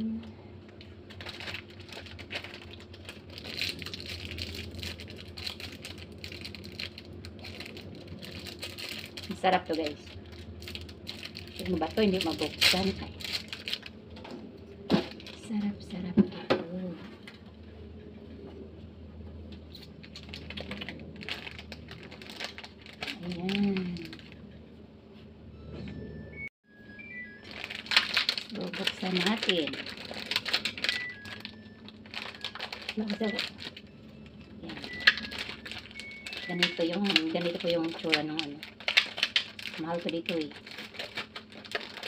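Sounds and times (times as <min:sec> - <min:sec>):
low steady hum: 0:00.0 - 0:42.0
plastic packaging crinkling: 0:00.6 - 0:14.2, 0:14.8 - 0:15.8, 0:19.6 - 0:24.5, 0:27.4 - 0:42.0.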